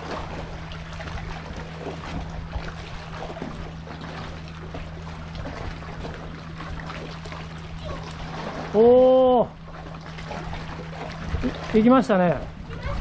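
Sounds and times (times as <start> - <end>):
constant low hum: 0.0 - 13.0
seawater washing among rocks: 0.0 - 13.0.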